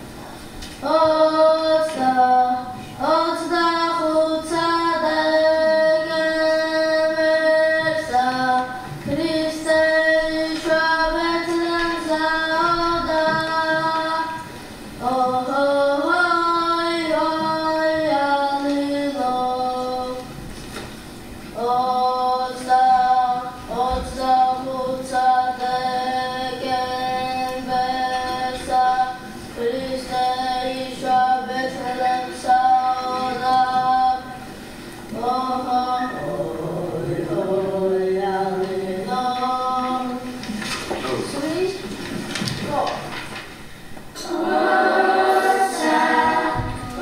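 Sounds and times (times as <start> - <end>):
mixed voices singing a cappella: 0.0 - 20.9, 21.5 - 43.0, 44.1 - 47.0.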